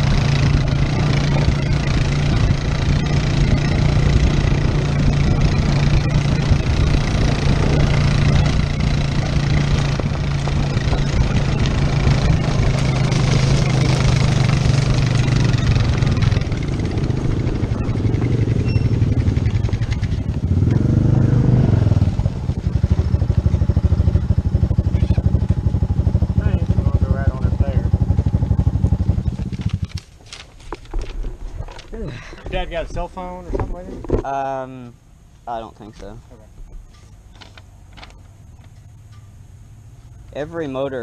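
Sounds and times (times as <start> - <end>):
atv engine running: 0.0 - 33.1
trail noise: 0.0 - 41.0
wind: 0.0 - 41.0.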